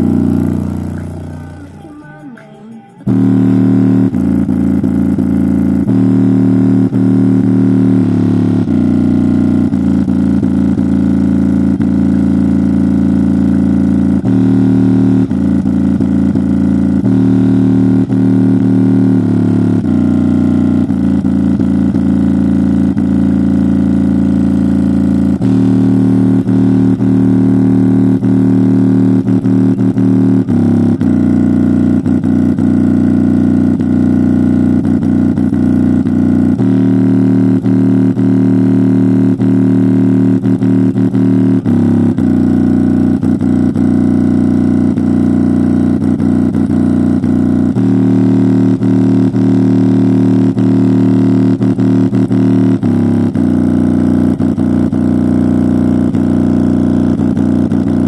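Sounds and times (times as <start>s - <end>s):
deep bass from speaker: 0.0s - 2.2s, 3.1s - 58.0s.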